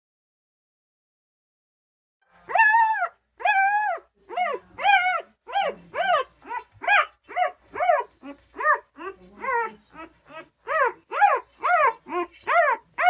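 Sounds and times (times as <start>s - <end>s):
puppy crying: 2.4s - 13.0s.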